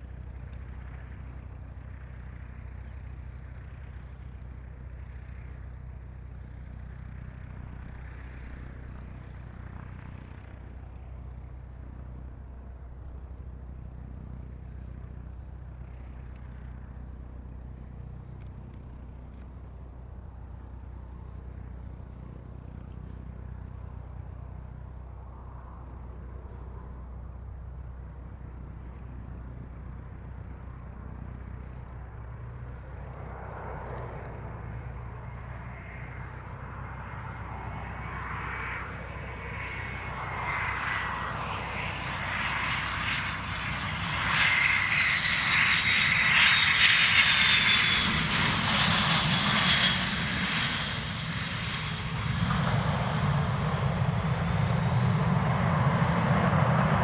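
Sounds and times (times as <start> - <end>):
jet engines on approach: 0.0 - 57.0.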